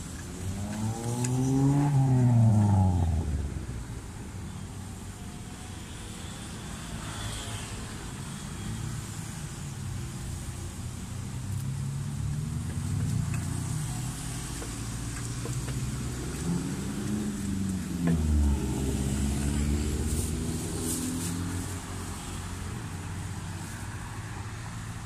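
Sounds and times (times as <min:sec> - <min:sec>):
traffic engines rumbling: 0:00.0 - 0:25.0.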